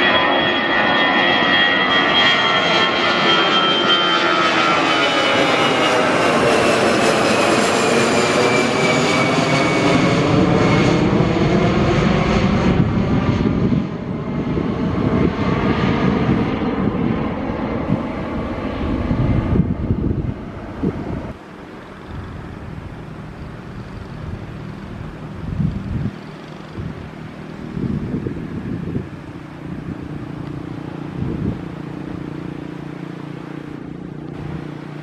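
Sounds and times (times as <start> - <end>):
jet airliner taking off: 0.0 - 35.0.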